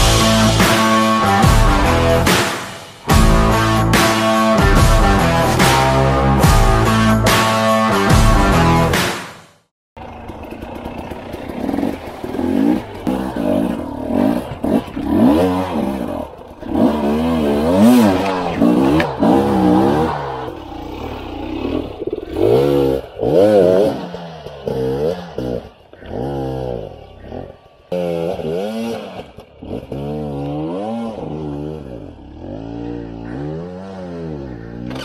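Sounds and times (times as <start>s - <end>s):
motorcycle engine revving: 0.0s - 9.0s, 10.0s - 35.0s.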